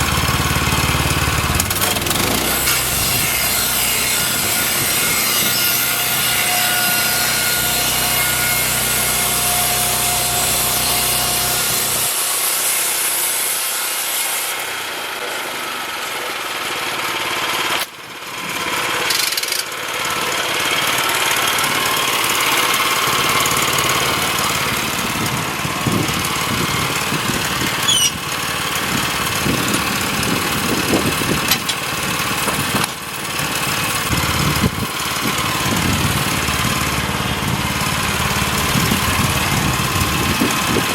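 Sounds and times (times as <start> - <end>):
small gas engine running: 0.0 - 12.3, 14.7 - 40.9
band saw cutting log: 0.0 - 40.9.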